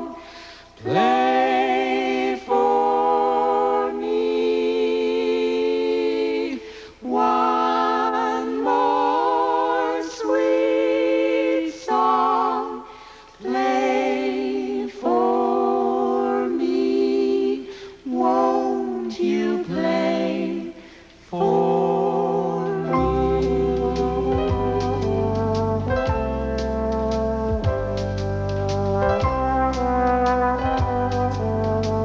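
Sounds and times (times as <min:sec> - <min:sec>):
voices singing unaccompanied: 0:00.0 - 0:26.4.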